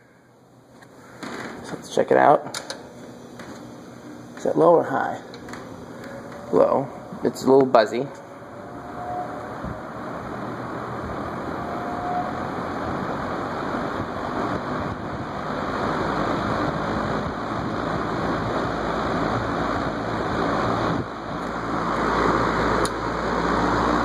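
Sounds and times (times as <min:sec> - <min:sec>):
box fan running: 0:00.0 - 0:24.0.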